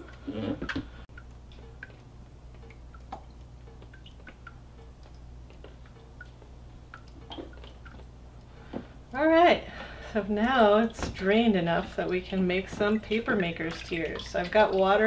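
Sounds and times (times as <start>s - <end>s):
steady low hum: 0.0s - 15.0s
water dripping into a tub: 1.1s - 15.0s.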